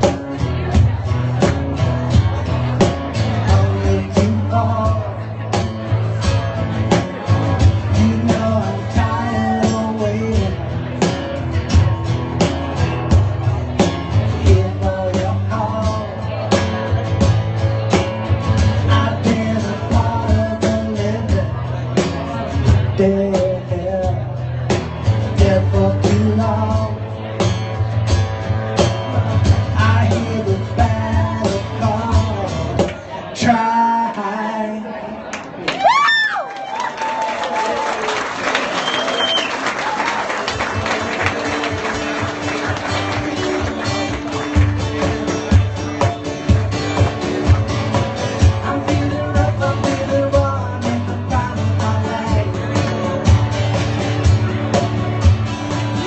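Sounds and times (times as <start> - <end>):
live rock band playing: 0.0 - 33.9, 38.4 - 56.0
steady bass: 0.0 - 34.9, 40.6 - 56.0.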